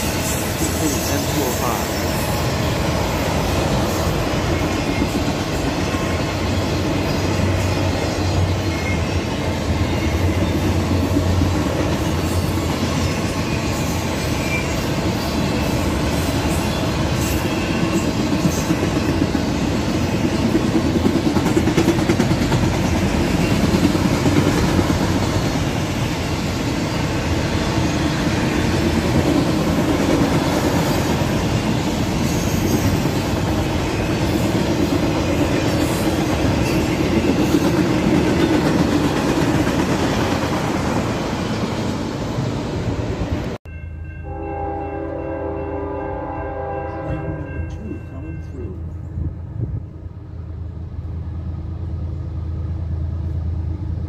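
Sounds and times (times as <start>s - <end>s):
train wheels on rails: 0.0s - 43.6s.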